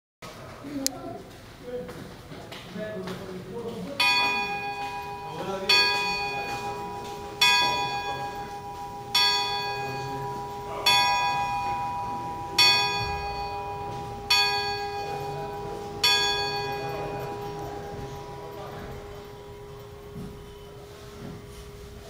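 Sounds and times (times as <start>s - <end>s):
clock tower bell ringing: 4.0s - 22.0s.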